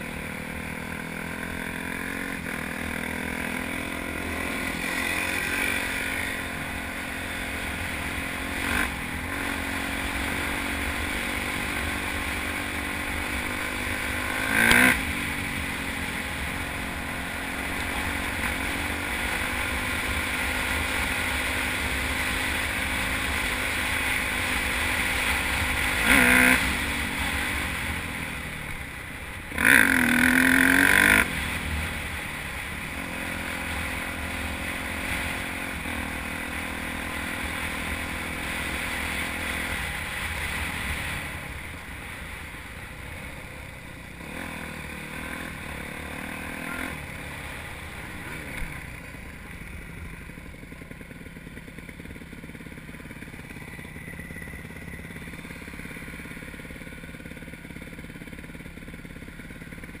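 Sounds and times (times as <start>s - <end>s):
dirt bike engine running: 0.0s - 60.0s.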